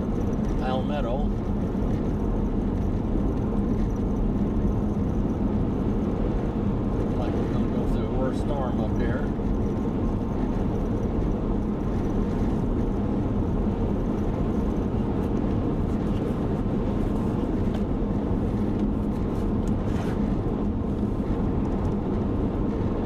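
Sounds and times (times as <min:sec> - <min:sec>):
car cabin road and engine noise: 0:00.0 - 0:23.0.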